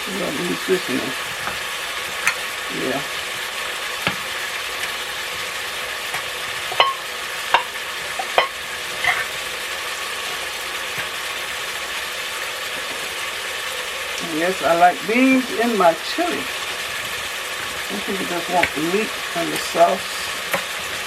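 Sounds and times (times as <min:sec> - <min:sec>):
meat sizzling: 0:00.0 - 0:21.0.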